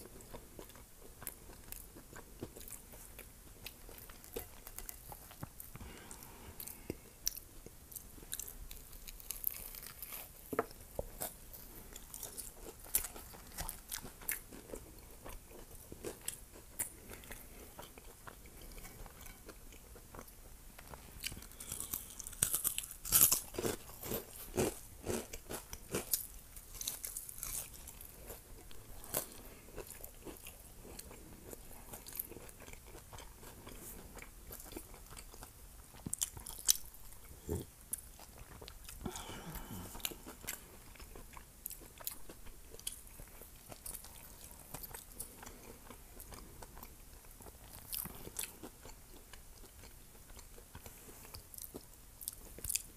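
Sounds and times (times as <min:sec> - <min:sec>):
crunchy chewing: 0:00.0 - 0:52.9.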